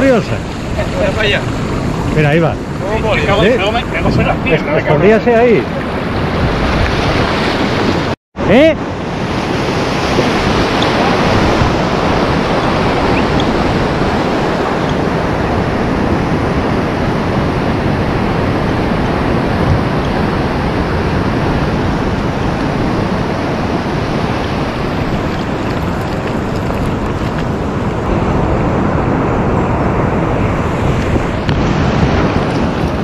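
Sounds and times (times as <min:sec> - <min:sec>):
wind on microphone: 0:00.0 - 0:08.2, 0:08.8 - 0:33.0
waves breaking and rushing: 0:00.0 - 0:33.0.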